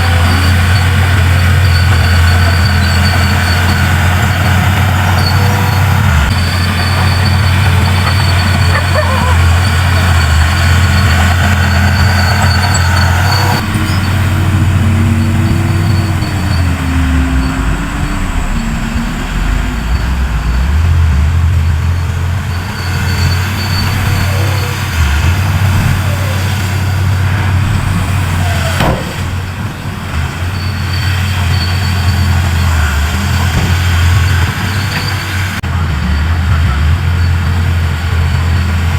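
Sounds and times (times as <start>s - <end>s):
heavy diesel engines rumbling: 0.0s - 38.9s.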